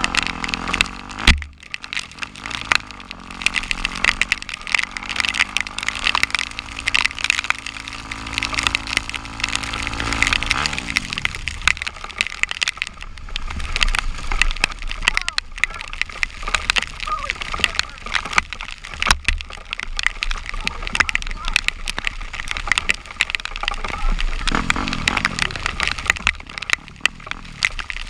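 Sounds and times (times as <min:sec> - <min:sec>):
off-road vehicle engine running: 0:00.0 - 0:28.0
rain hitting camera: 0:00.0 - 0:28.0.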